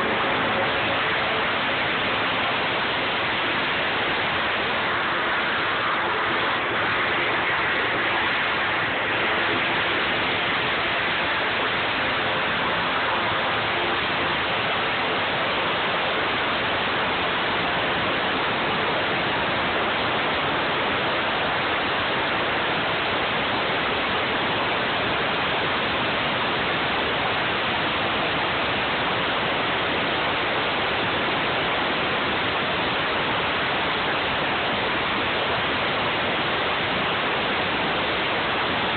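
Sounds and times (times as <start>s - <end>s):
high-pressure water jet hissing: 0.0s - 38.9s.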